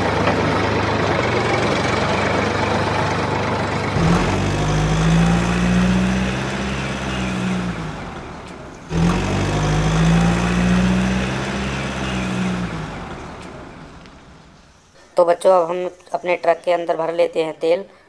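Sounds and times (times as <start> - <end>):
truck engine revving: 0.0 - 14.9.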